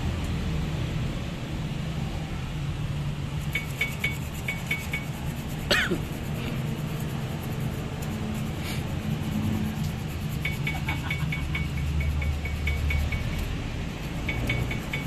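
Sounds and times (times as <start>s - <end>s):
steady low hum: 2.6s - 15.0s.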